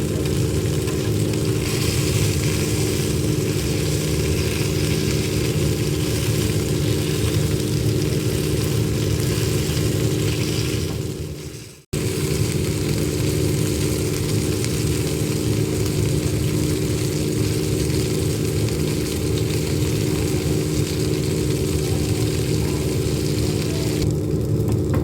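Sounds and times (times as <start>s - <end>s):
motor-like hum: 0.0s - 25.0s.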